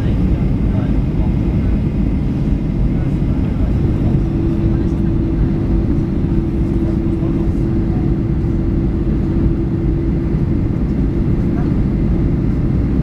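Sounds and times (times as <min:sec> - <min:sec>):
jet engine and airflow rumble: 0:00.0 - 0:13.0
steady cabin hum: 0:00.0 - 0:13.0.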